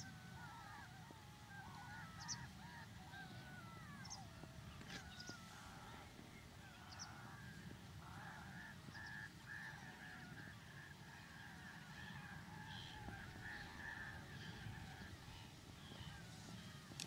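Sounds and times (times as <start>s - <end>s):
distant birds calling: 0.0s - 17.0s.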